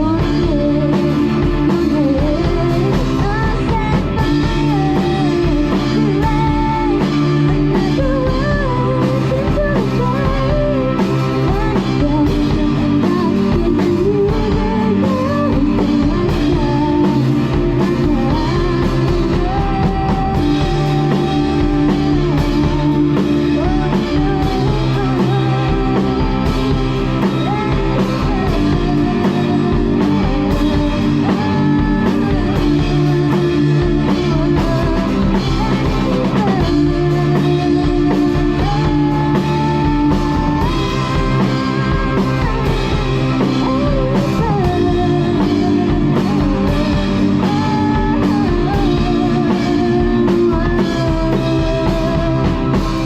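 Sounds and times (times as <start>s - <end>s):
drum kit playing: 0.0s - 53.0s
pop backing track: 0.0s - 53.0s
woman singing: 0.0s - 53.0s.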